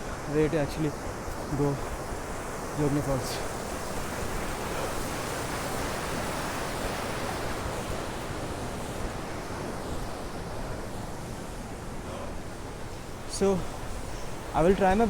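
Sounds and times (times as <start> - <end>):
fast-flowing water rushing: 0.0 - 15.0.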